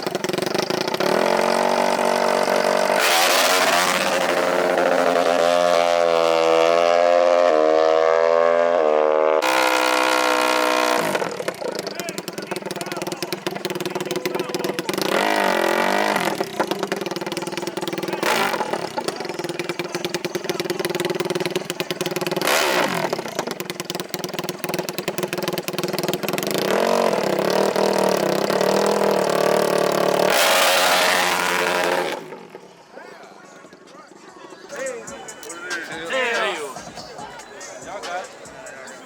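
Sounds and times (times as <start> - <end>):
small off-road engines revving: 0.0 - 32.9.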